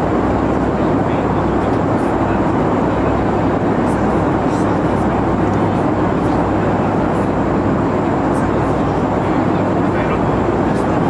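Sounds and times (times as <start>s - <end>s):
airplane cabin air and engine hum: 0.0s - 11.0s.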